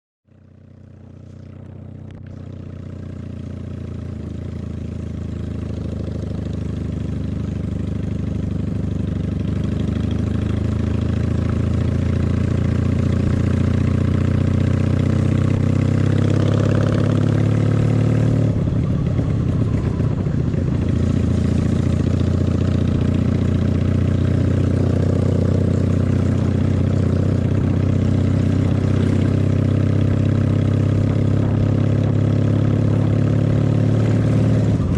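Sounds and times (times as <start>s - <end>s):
motorcycle engine accelerating: 0.3s - 34.9s.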